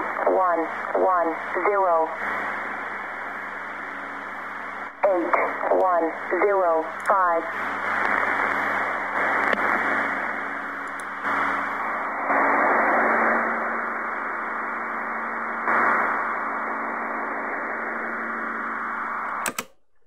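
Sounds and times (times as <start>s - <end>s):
radio static hiss: 0.0s - 19.6s
faint steady hum: 0.0s - 20.0s.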